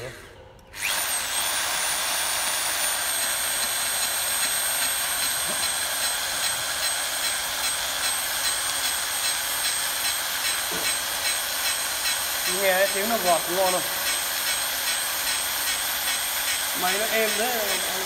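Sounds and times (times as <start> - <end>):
pipe beveling machine motor whine: 0.7 - 18.0.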